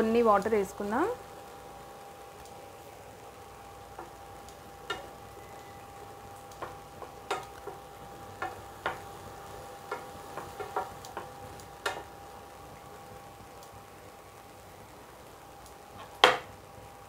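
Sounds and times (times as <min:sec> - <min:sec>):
low steady sizzle: 0:00.0 - 0:17.0.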